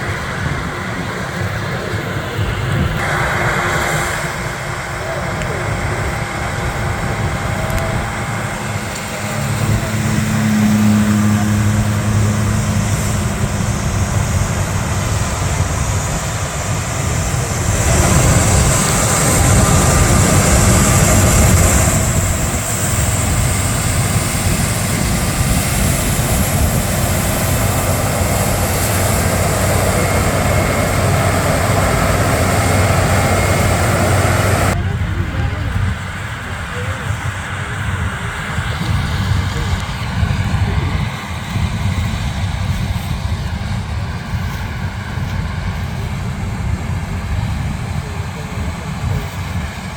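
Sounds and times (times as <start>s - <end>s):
combine harvester engine hum: 0.0s - 49.9s.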